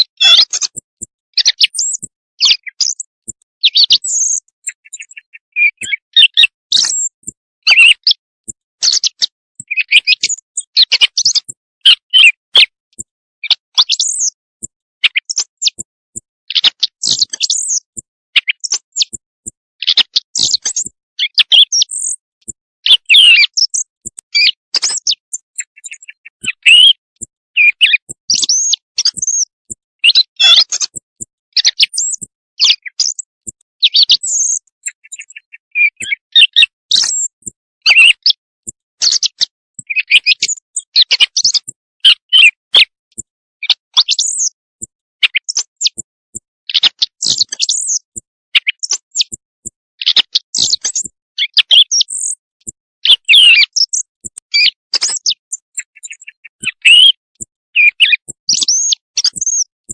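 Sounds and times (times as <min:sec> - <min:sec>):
recorded bird song lure call: 0:00.0 - 0:46.1, 0:46.7 - 0:59.9.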